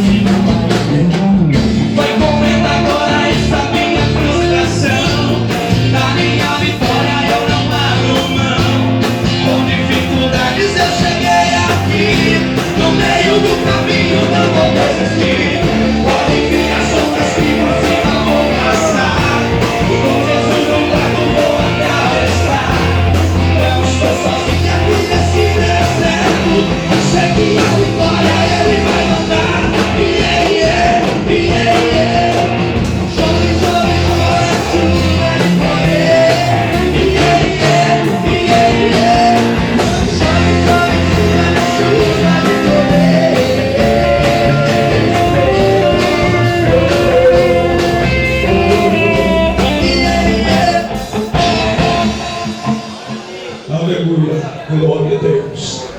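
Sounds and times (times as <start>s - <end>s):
upbeat gospel band music: 0.0s - 55.9s.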